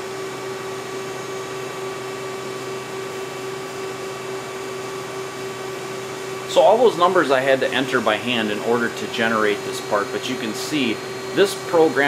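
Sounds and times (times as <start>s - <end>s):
machine shop hum and hiss: 0.0s - 12.0s.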